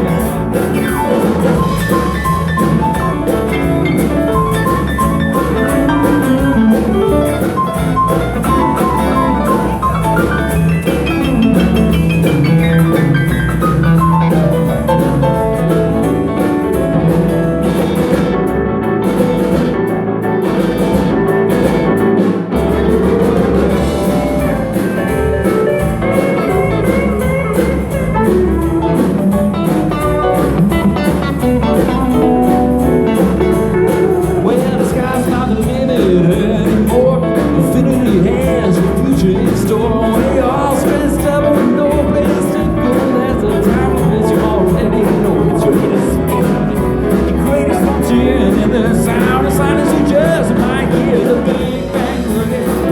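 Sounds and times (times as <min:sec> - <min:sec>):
drum kit: 0:00.0 - 0:52.9
guitar: 0:00.0 - 0:52.9.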